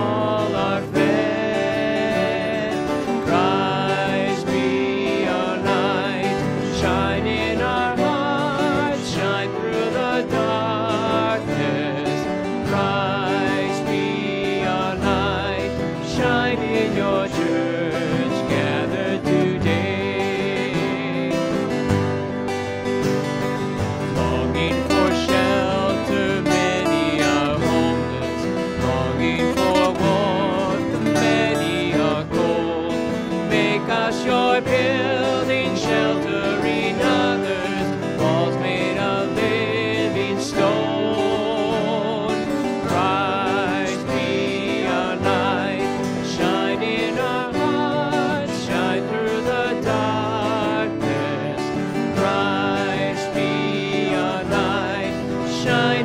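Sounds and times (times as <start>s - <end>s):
strummed acoustic guitars: 0.0s - 56.0s
voices singing: 0.0s - 56.0s.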